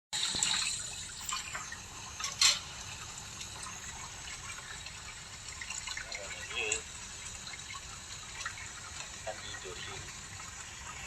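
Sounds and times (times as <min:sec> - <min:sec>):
water running: 0:00.2 - 0:11.0.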